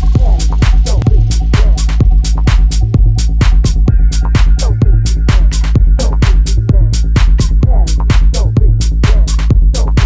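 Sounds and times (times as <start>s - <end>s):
electronic dance music: 0.0s - 10.0s
hi-hats: 0.0s - 10.0s
pounding kick and bass: 0.0s - 10.0s.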